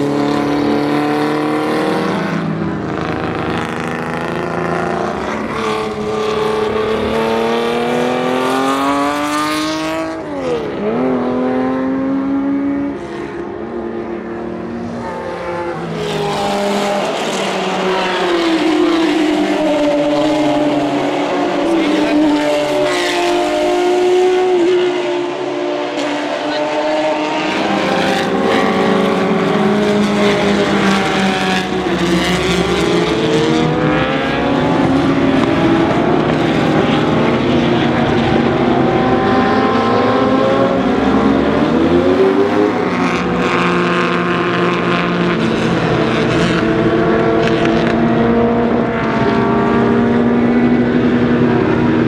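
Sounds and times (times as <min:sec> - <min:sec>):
racing car engines revving: 0:00.0 - 0:52.0.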